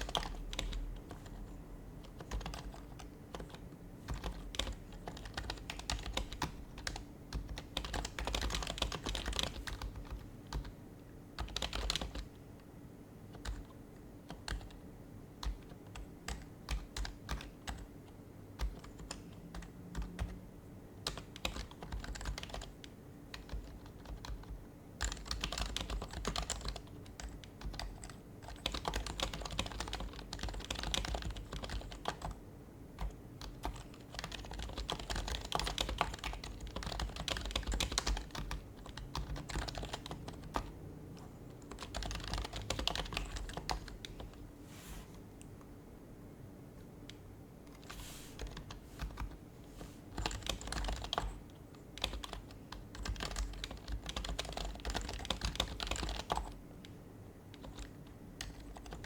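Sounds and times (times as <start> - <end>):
soft keyboard typing: 0.0 - 12.7, 13.3 - 32.4, 33.0 - 44.6, 46.8 - 59.0.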